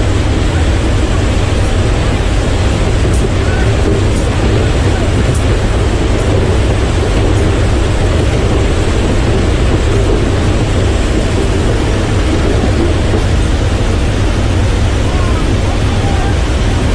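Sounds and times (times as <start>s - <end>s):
jet engines roaring: 0.0s - 16.9s.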